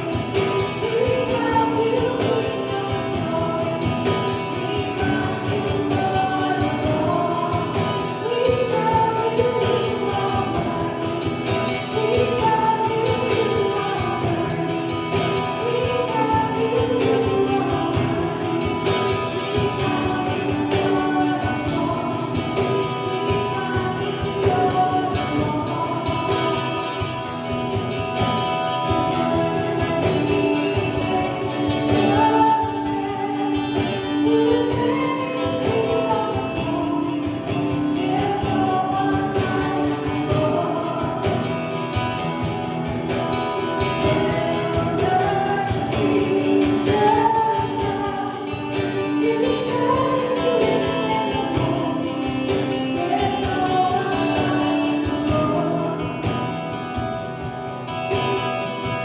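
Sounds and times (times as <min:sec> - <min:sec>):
group singing gospel with band: 0:00.0 - 0:59.0.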